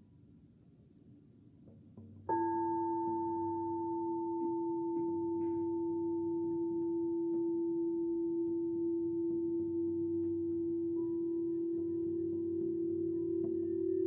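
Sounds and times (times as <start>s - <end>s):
singing bowl ringing: 2.3s - 14.0s.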